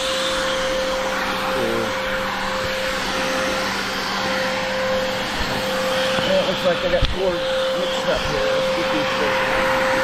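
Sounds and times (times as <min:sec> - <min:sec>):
power sander running: 0:00.0 - 0:10.0.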